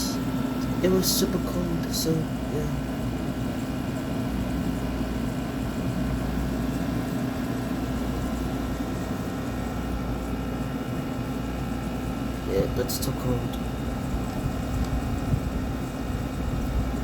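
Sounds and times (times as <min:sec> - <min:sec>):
air conditioner humming: 0:00.0 - 0:17.0
thin steady whine: 0:00.0 - 0:17.0.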